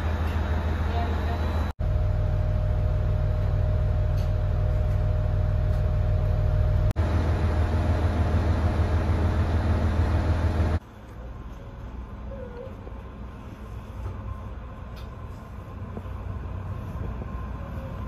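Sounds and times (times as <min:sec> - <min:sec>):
diesel railcar engine hum: 0:00.0 - 0:18.0.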